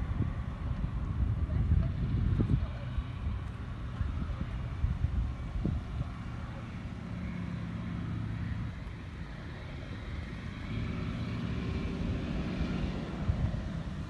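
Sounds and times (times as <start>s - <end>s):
biplane radial engine running: 0.0s - 14.0s.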